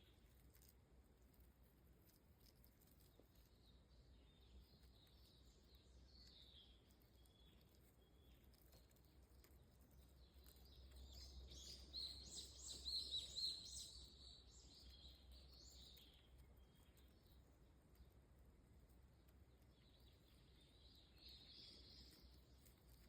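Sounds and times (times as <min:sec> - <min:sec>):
birds chirping: 0:03.0 - 0:18.2, 0:19.0 - 0:23.0.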